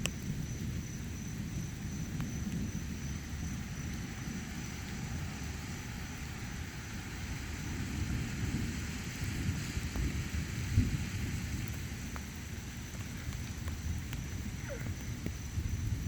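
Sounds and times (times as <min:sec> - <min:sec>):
low thunder rumble: 0:00.0 - 0:16.0
rain hiss: 0:00.0 - 0:16.0.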